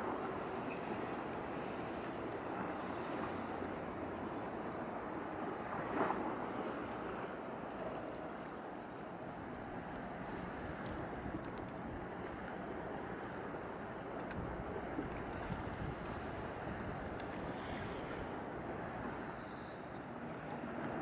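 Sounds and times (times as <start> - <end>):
water at shoreline: 0.0 - 21.0
wind: 0.0 - 21.0.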